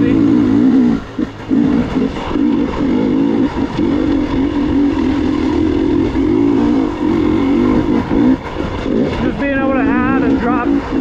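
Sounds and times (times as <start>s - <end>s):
two-stroke dirt bike engine: 0.0s - 11.0s.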